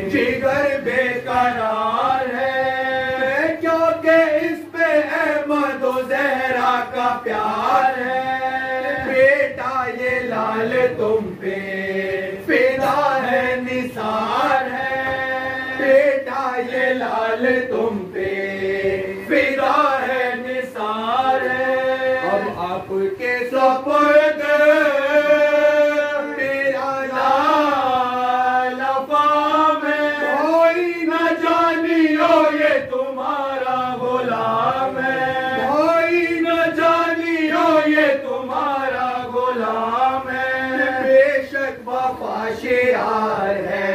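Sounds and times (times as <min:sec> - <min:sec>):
men chanting a lament: 0:00.0 - 0:43.9.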